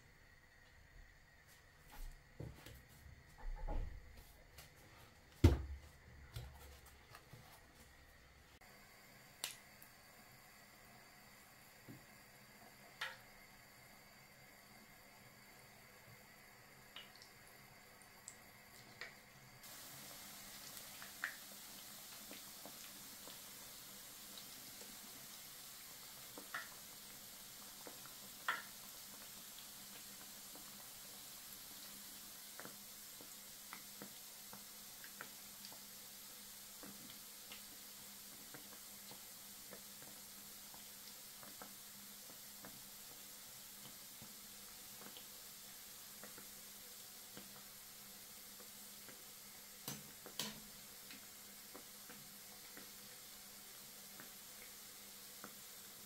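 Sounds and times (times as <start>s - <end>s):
oil sizzling: 5.2s - 56.0s.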